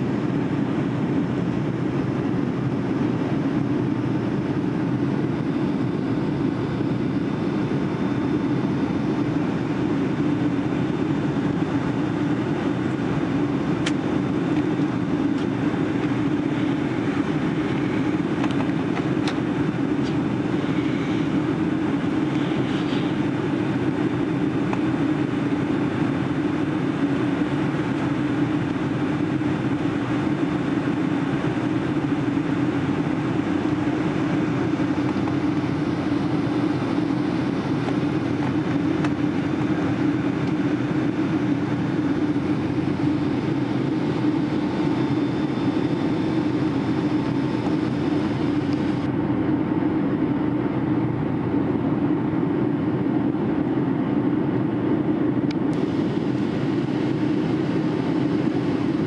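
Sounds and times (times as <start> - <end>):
airplane cabin engine hum: 0.0 - 59.0.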